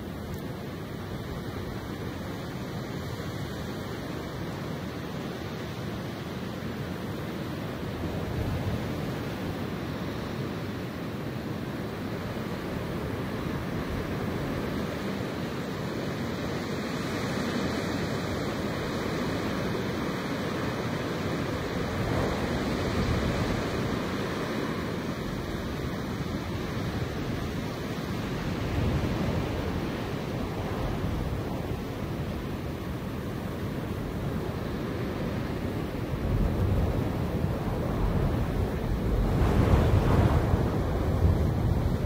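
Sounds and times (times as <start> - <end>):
wind through grass and trees: 0.0 - 42.0.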